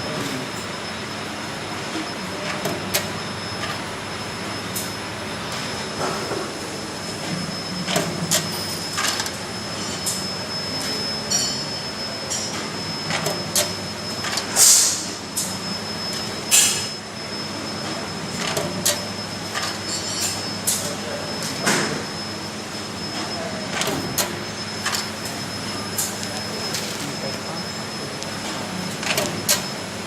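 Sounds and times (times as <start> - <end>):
washing machine humming and whining: 0.0 - 30.0.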